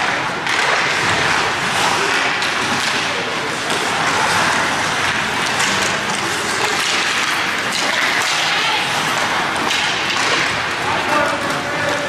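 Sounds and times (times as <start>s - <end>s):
hockey sticks and puck knocks: 0.0s - 12.0s
skates on ice: 0.0s - 12.0s
spectators: 0.0s - 12.0s.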